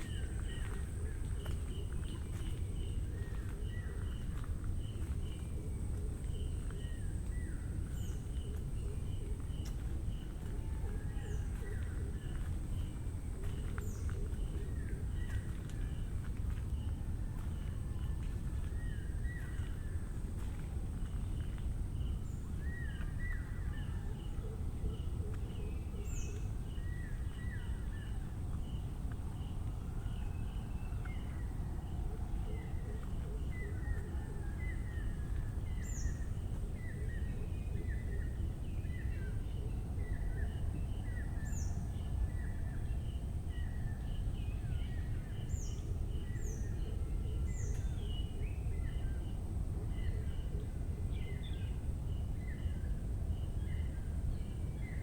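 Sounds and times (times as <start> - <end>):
constant low rumble: 0.0 - 55.0.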